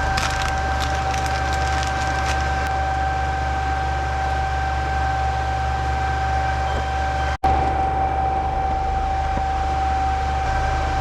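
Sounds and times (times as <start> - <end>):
computer cooling fans whirring: 0.0 - 11.0.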